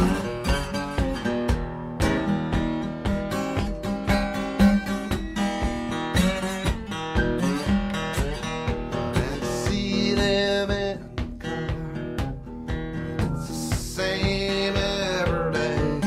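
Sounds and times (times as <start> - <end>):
guitar song with steady beat: 0.0 - 16.0.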